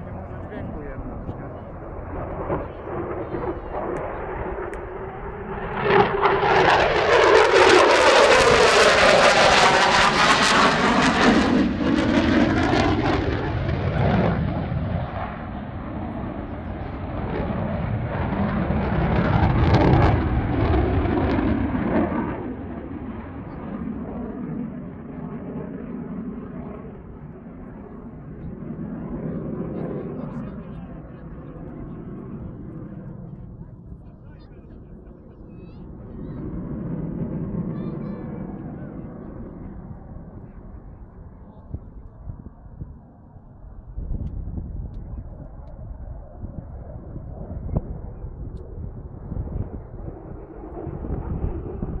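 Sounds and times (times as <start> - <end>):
jet engine flying past: 0.0 - 52.0.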